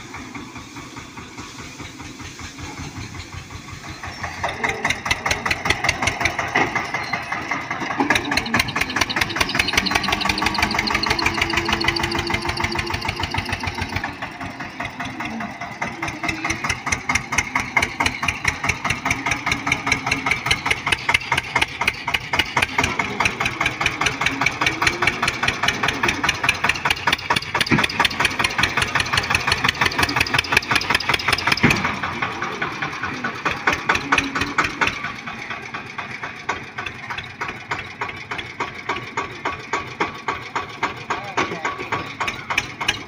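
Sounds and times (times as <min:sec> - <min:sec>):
tractor diesel engine chugging: 0:00.0 - 0:43.0.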